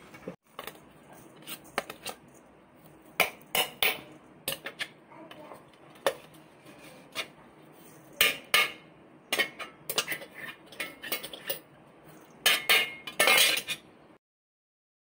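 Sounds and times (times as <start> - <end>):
utensils clinking against metal bowl: 0.5 - 14.0.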